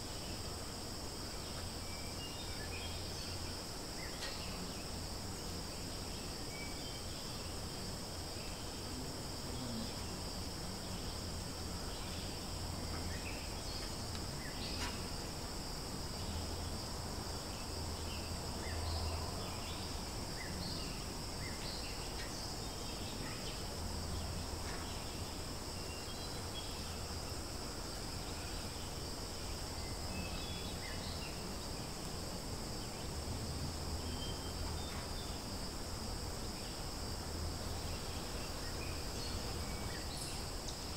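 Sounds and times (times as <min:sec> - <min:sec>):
insects droning high-pitched: 0:00.0 - 0:40.9.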